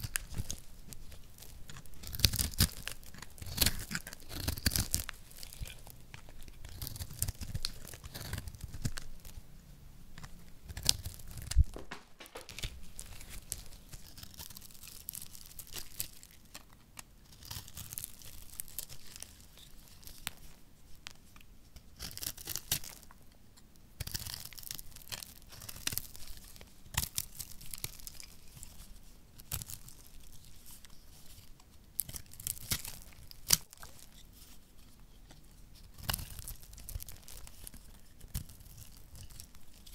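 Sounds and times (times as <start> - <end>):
knife cutting and scraping soap: 0.0 - 9.1, 12.4 - 23.2, 24.0 - 39.9
soap crackling and crunching: 0.0 - 9.4, 10.1 - 39.9.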